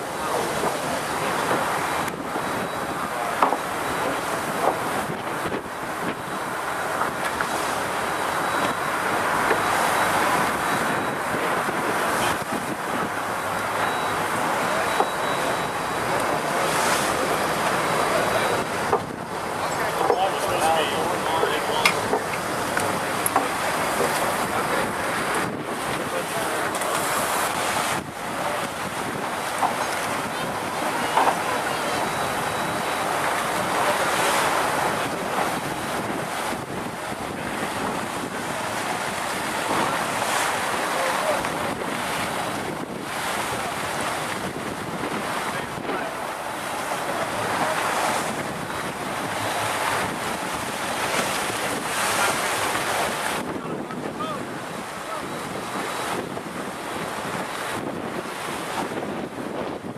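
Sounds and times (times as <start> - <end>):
sea water rushing along hull: 0.0 - 59.9
wind buffeting microphone: 0.0 - 59.9.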